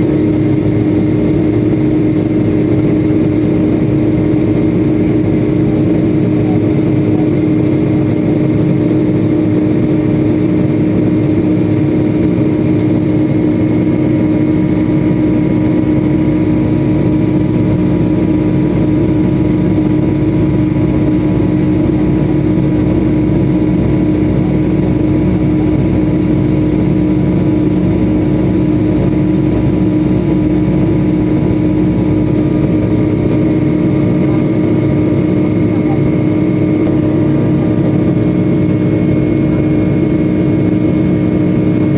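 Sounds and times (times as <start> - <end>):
jet engines droning in cabin: 0.0 - 41.9.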